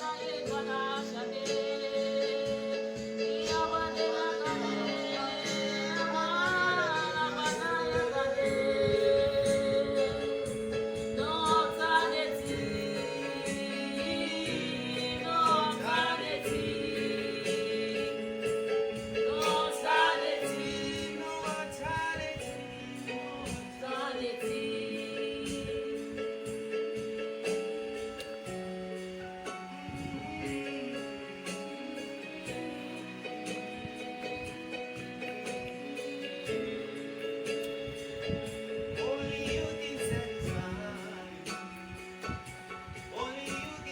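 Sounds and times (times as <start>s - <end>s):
woman singing gospel: 0.0s - 27.6s, 29.6s - 38.2s
light steady beat: 0.0s - 43.9s.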